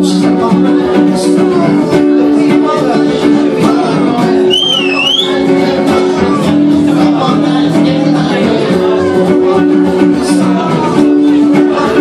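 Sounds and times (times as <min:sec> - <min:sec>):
strummed acoustic guitars: 0:00.0 - 0:12.0.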